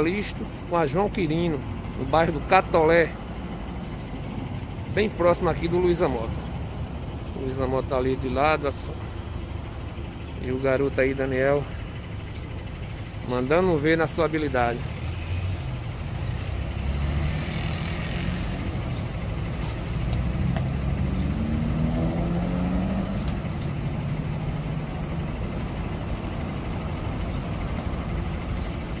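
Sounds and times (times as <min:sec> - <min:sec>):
traffic engine rumble: 0:00.0 - 0:29.0
vehicle engine revving off: 0:01.2 - 0:29.0.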